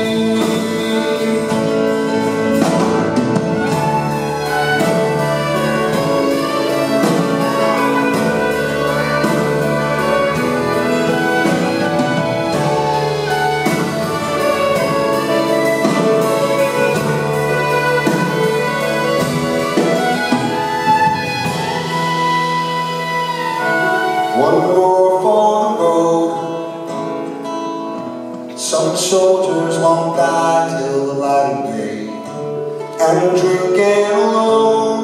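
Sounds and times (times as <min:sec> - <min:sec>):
acoustic folk rock music: 0:00.0 - 0:35.0
acoustic guitar strumming: 0:00.0 - 0:35.0.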